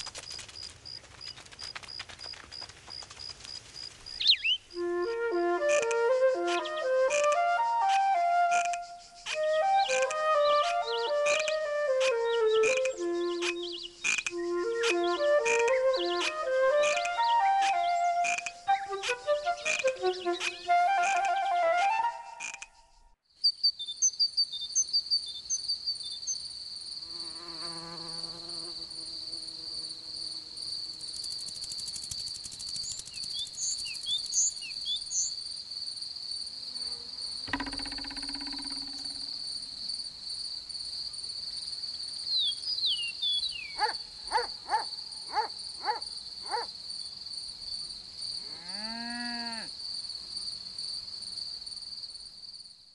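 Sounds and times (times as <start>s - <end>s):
cricket chirring: 0.0s - 52.8s.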